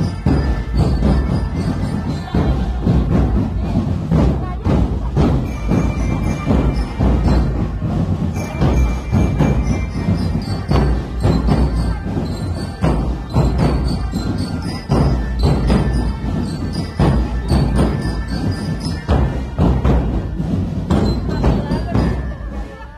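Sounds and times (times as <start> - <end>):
marching drum band: 0.0 - 22.8.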